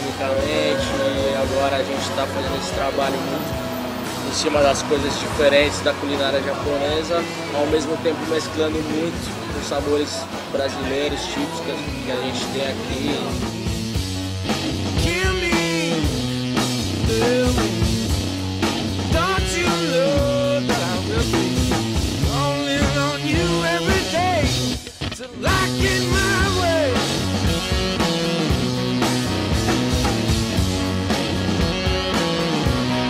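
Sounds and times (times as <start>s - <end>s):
rock music with bending guitar: 0.0s - 33.0s.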